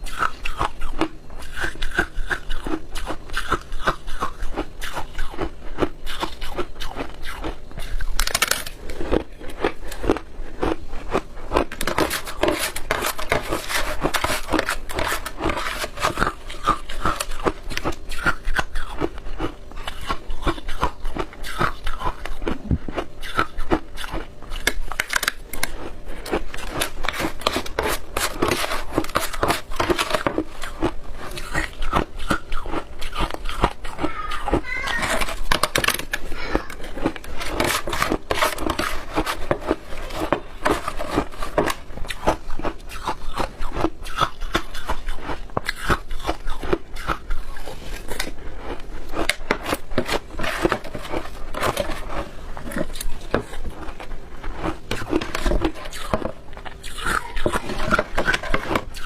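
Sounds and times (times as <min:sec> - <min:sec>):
crunching and chewing ice: 0:00.0 - 0:59.0.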